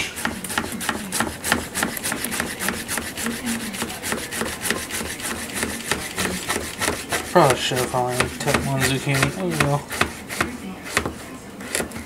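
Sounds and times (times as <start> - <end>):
knife chopping on cutting board: 0.0 - 12.0.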